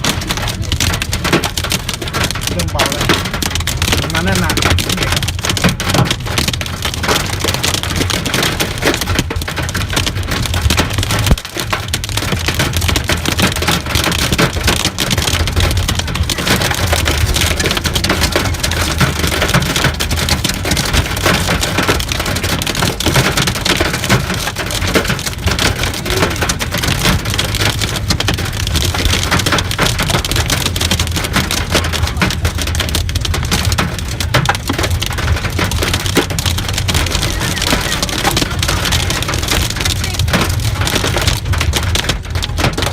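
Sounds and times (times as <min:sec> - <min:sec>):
hail and heavy rain pelting: 0:00.0 - 0:42.9.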